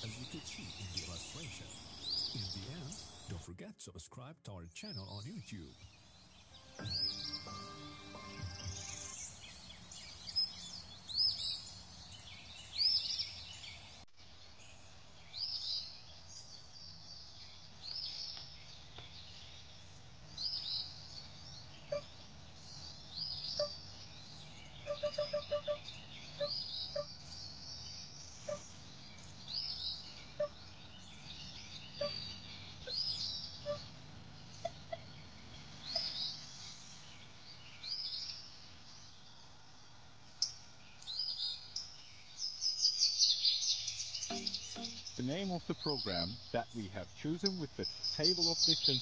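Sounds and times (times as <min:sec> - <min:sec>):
birds chirping: 0:00.0 - 0:39.6, 0:40.4 - 0:49.0.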